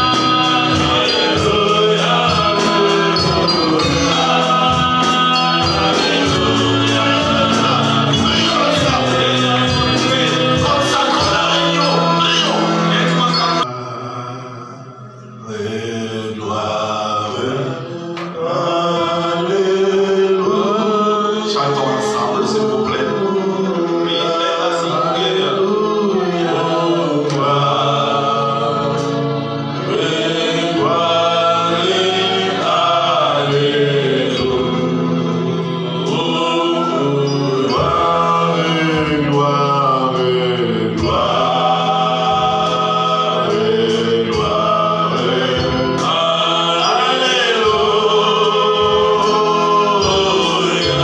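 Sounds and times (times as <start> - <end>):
low musical accompaniment: 0.0 - 51.0
men singing into microphones: 0.0 - 51.0.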